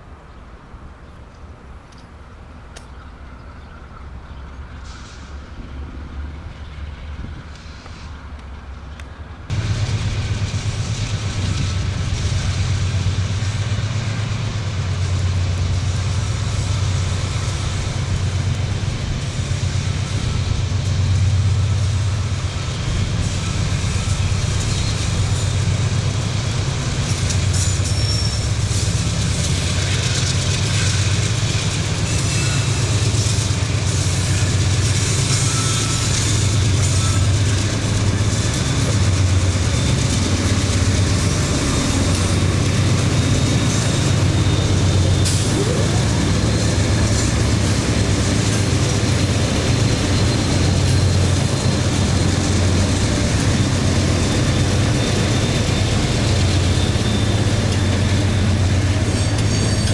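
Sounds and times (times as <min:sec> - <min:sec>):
train rumbling by: 0:00.0 - 0:59.9.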